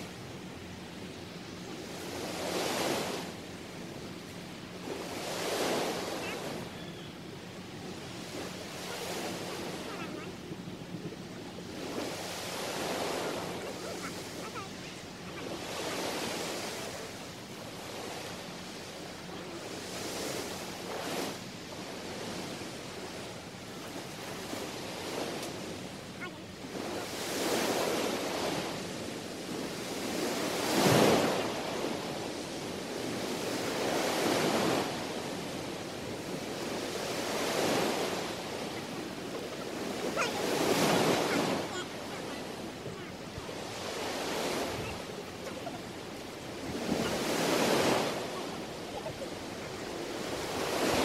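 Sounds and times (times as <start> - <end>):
small waves breaking on a beach: 0.0 - 51.0.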